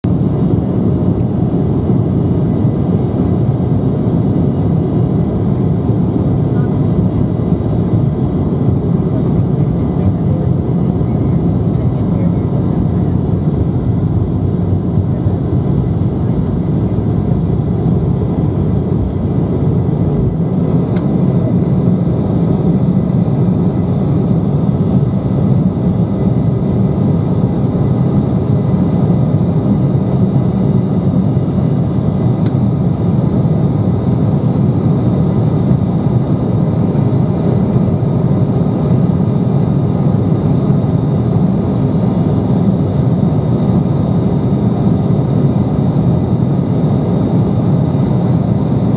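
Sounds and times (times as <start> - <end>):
jet engines roaring in cabin: 0.0 - 48.9
faint engine whine: 0.1 - 48.9.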